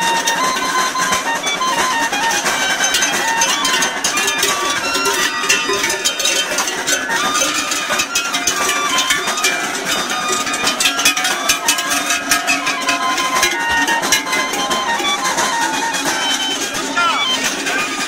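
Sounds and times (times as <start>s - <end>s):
cattle collar bells clanging: 0.0s - 18.0s.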